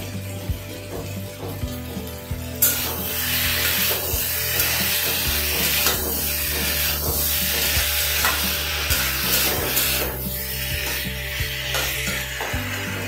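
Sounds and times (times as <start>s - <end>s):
metal spatula scraping pan: 0.0s - 13.0s
vegetables sizzling in oil: 0.0s - 13.0s.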